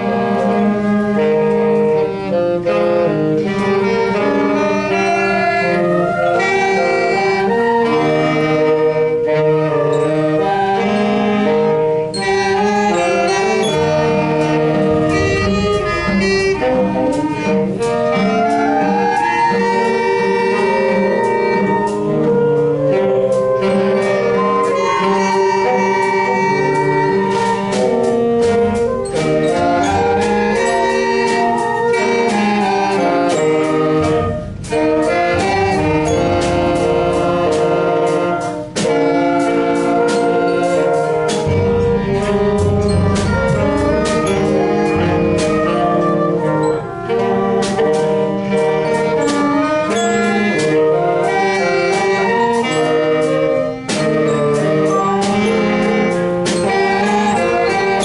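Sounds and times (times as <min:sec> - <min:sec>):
brass and wind band playing: 0:00.0 - 0:58.0.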